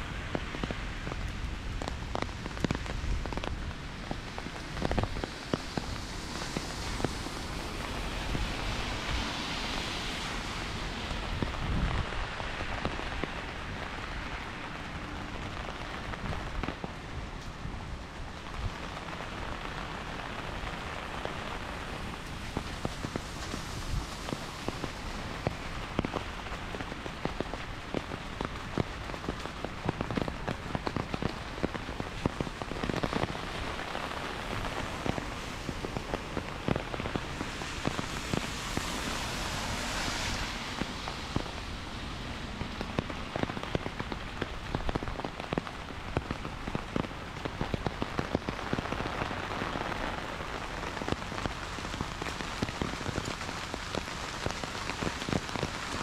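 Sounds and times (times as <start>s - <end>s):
heavy rain falling: 0.0s - 56.0s
sharp raindrop splats: 0.0s - 56.0s.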